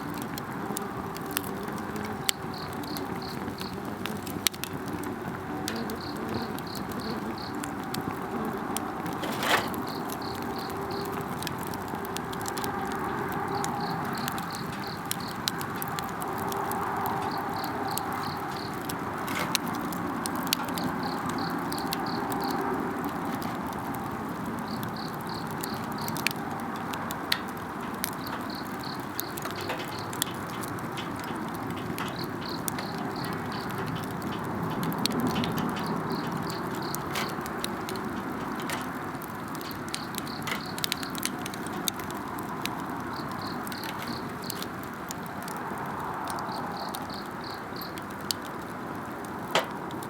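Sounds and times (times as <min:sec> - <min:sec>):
campfire crackling and popping: 0:00.0 - 0:50.0.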